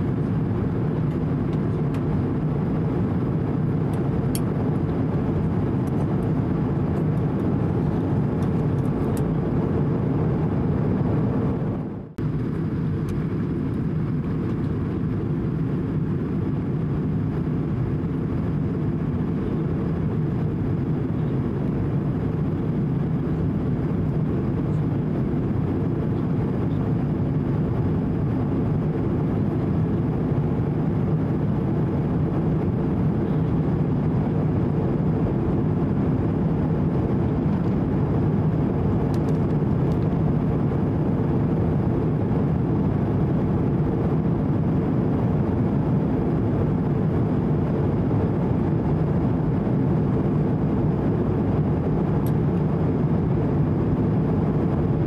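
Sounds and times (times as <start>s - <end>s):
airplane cabin engine rush: 0.0s - 55.0s.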